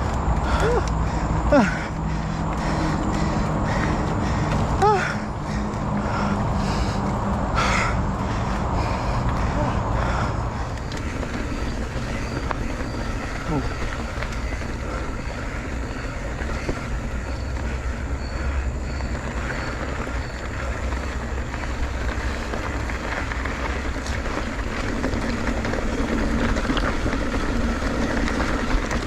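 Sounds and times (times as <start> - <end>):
bicycle road noise: 0.0 - 29.0.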